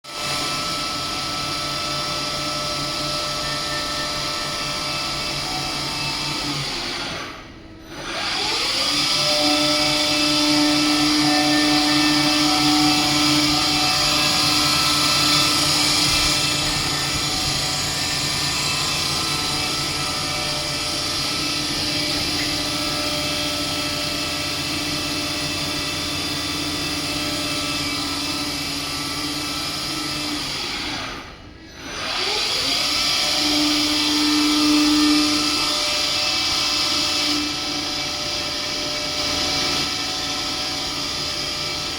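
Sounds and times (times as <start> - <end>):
lathe motor and spindle whine: 0.1 - 41.9.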